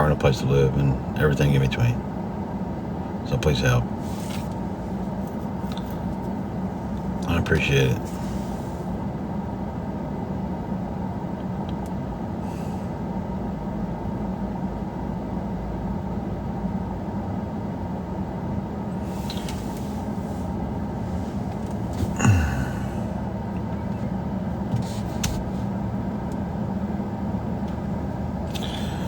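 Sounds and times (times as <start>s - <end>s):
car running inside cabin: 0.0s - 29.0s.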